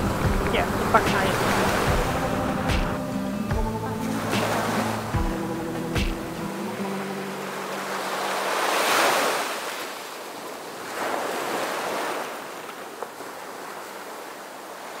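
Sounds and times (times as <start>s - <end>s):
ocean surf breaking on beach: 0.0s - 15.0s.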